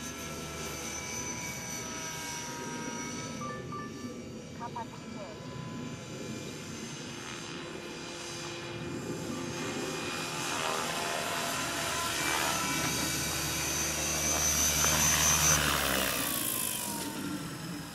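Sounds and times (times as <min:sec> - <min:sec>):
helicopter rotor noise: 0:00.0 - 0:17.9
rc helicopter motor whine: 0:00.0 - 0:17.9.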